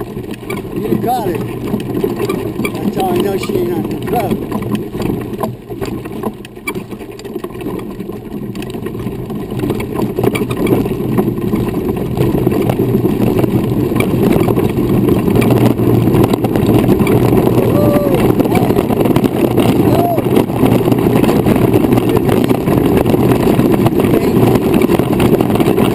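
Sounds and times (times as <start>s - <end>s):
wheelchair tyres rolling on gravel: 0.0s - 25.9s.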